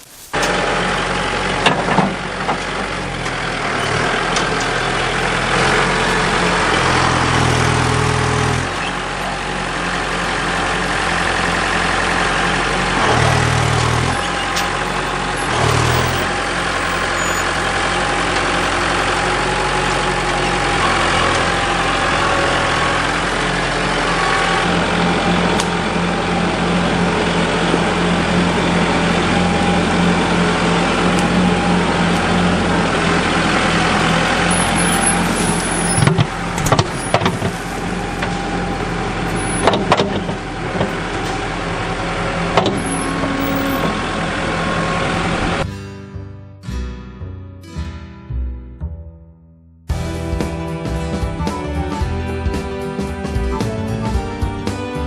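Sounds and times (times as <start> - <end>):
tractor engine running: 0.0 - 45.8, 49.9 - 55.0.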